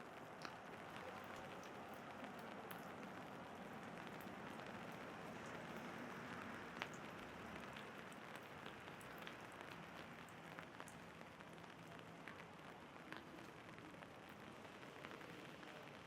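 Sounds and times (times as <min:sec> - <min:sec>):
faint rain: 0:00.0 - 0:16.0
raindrops ticking on umbrella: 0:00.0 - 0:16.0.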